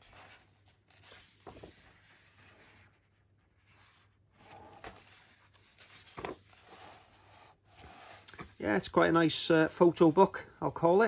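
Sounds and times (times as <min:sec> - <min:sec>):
book handling sounds: 0:00.0 - 0:10.4
book pages rustling: 0:00.0 - 0:10.4.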